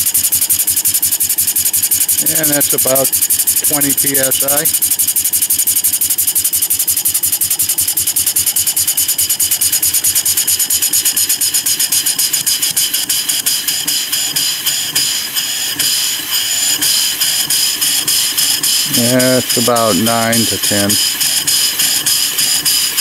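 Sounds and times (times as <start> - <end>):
steam engine puffing and clattering: 0.0 - 23.0.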